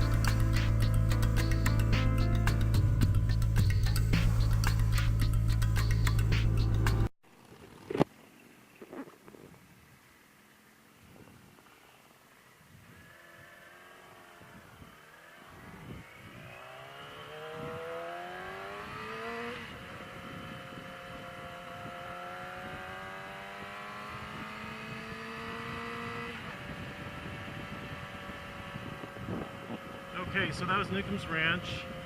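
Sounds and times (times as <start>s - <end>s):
motorcycle engine accelerating: 0.0s - 7.1s, 12.4s - 32.0s.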